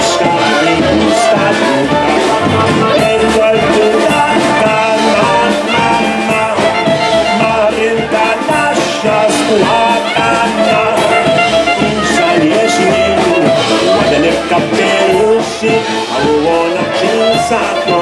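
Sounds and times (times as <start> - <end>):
clarinet melody: 0.0 - 18.0
polka band playing: 0.0 - 18.0.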